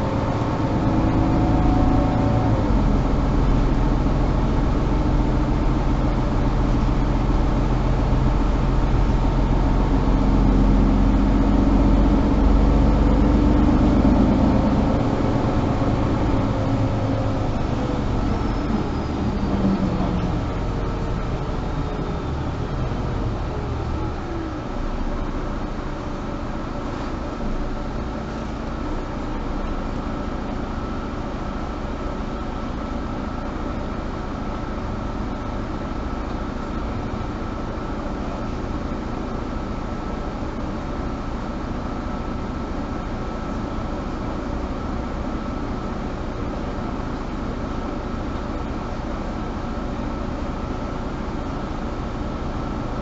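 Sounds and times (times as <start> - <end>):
bus engine and ventilation hum: 0.0 - 53.0.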